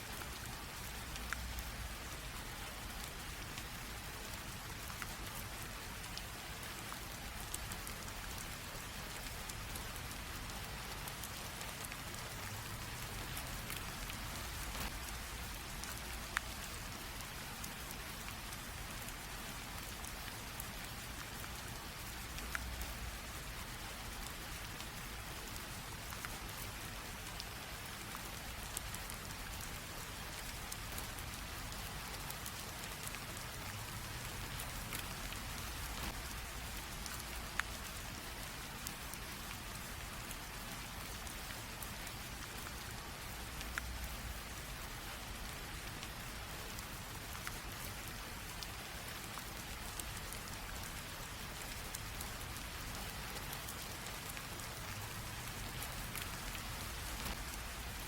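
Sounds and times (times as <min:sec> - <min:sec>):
light rain drizzle: 0:00.0 - 0:58.0
raindrop ticks: 0:00.1 - 0:58.0.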